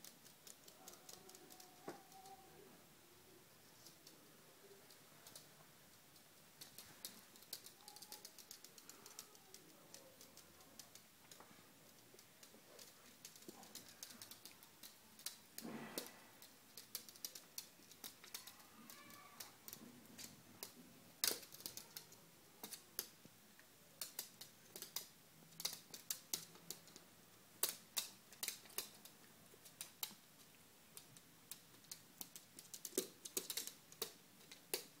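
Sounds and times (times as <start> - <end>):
dog claws clicking on wooden floor: 0.0 - 2.2, 6.6 - 23.2, 24.0 - 27.0, 27.6 - 35.0.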